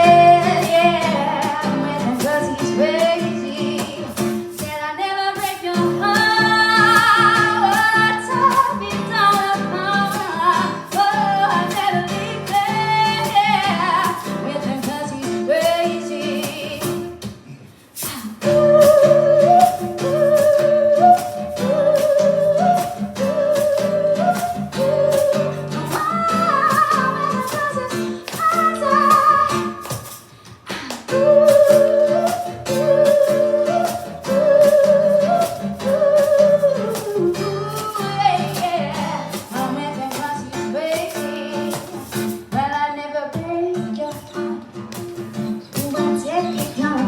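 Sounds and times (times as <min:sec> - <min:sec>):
woman singing: 0:00.0 - 0:17.3, 0:18.0 - 0:47.0.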